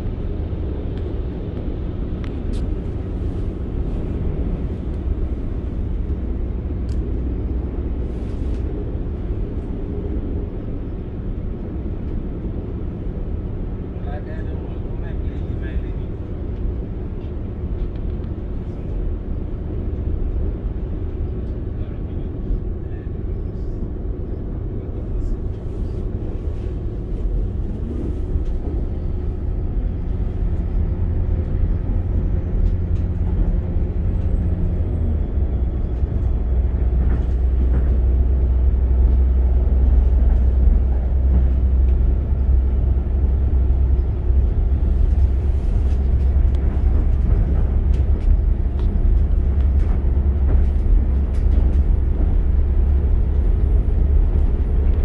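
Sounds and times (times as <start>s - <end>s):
train diesel engine rumble: 0.0s - 55.0s
train wheels on track: 0.0s - 55.0s.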